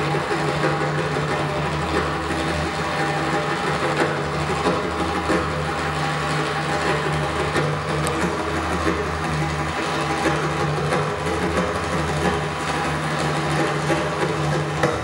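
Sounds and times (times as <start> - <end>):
live instrumental dance music: 0.0 - 15.0.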